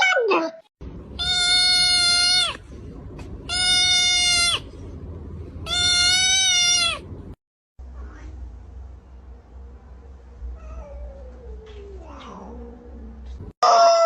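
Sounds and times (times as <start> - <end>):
steady low hum: 0.8 - 13.5.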